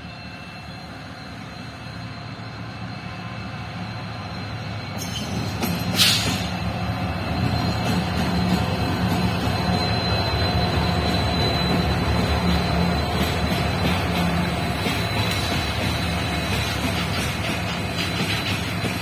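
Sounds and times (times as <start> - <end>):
diesel locomotive engines droning: 0.0 - 19.0.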